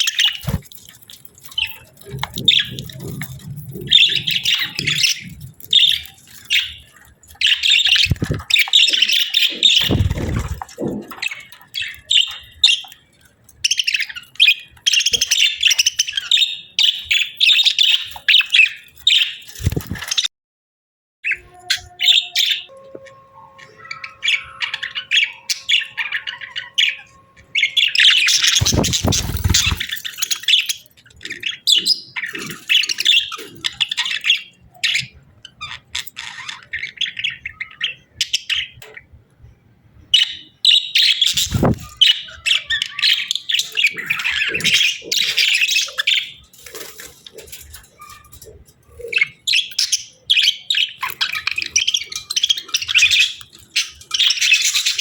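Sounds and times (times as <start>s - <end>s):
budgerigars chirping and chattering: 0.0s - 20.3s, 21.2s - 39.1s, 40.1s - 55.0s.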